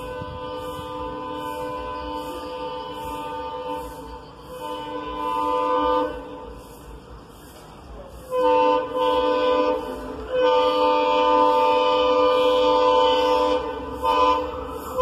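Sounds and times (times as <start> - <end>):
locomotive horn blasts: 0.0 - 6.7, 8.2 - 15.0.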